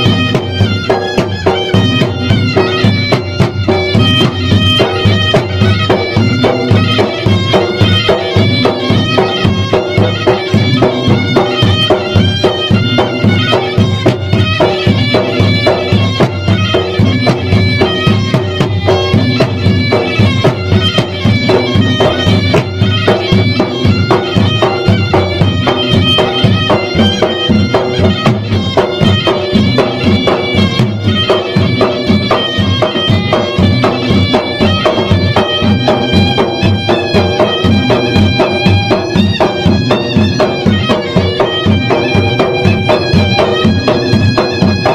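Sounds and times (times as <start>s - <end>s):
fast lively drumming: 0.0s - 44.9s
shrill reed wind instrument droning: 0.0s - 44.9s.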